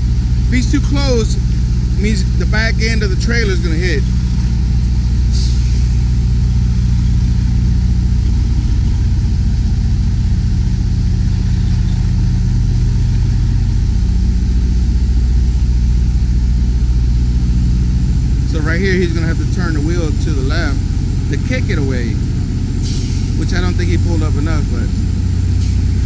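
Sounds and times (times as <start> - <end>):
diesel engine running low revs: 0.0 - 26.0.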